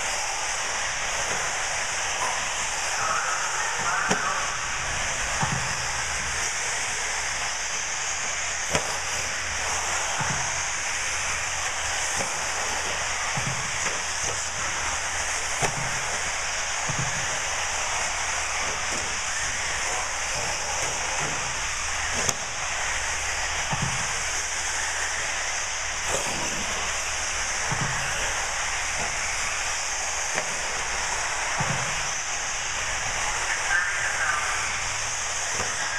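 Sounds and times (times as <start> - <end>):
rc car tyres and motors hissing: 0.0 - 35.9.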